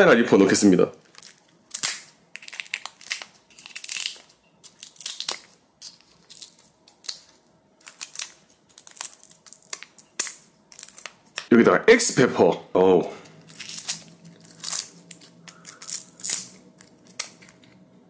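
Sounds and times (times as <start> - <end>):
packaging crinkling and rustling: 1.0 - 11.5, 13.4 - 17.8.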